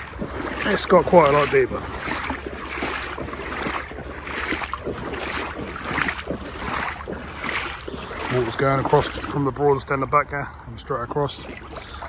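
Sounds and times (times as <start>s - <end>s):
legs wading through water: 0.0s - 12.0s.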